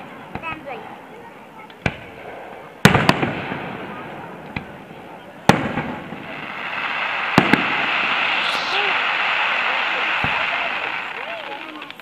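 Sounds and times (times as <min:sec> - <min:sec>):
fireworks bangs: 0:01.7 - 0:12.0.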